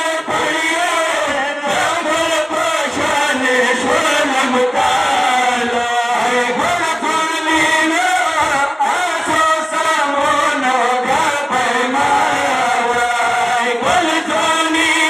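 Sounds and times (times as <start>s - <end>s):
person chanting a lament: 0.0s - 15.0s.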